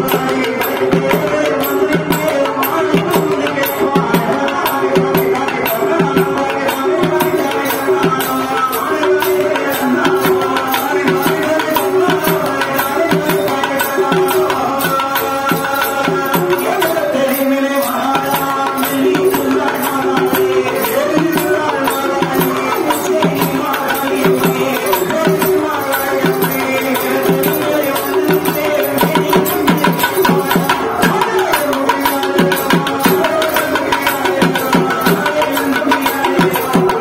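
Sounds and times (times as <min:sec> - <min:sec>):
hand drum beat: 0:00.0 - 0:37.0
person singing folk song: 0:00.0 - 0:37.0.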